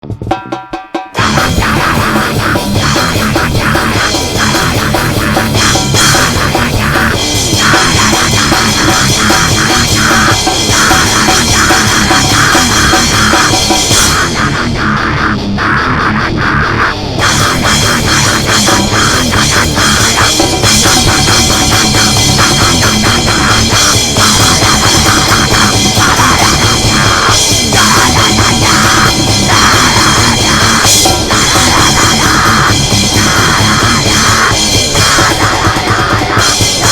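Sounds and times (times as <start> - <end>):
heavy rock music with drums: 0.0 - 36.9.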